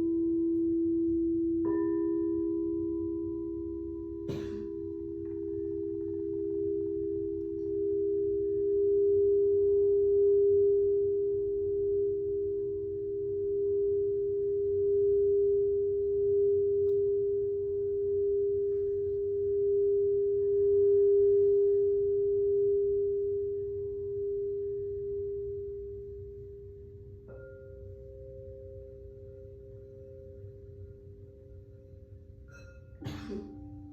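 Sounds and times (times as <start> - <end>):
singing bowl ringing tone: 0.0 - 33.9.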